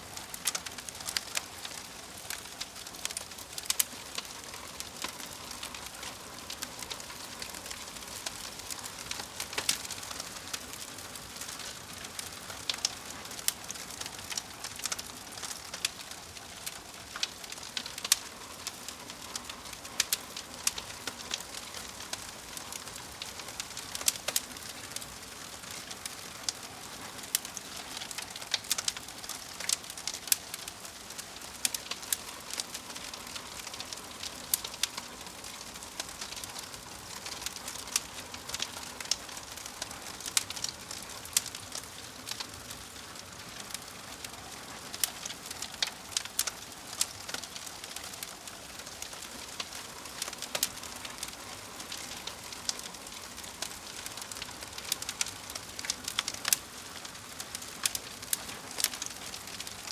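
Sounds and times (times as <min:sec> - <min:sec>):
wood fire hissing and crackling: 0:00.0 - 0:59.9.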